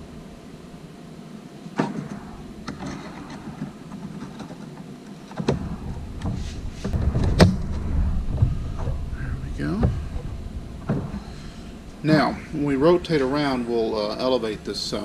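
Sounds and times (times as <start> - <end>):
low handling rumble: 1.9 - 15.0.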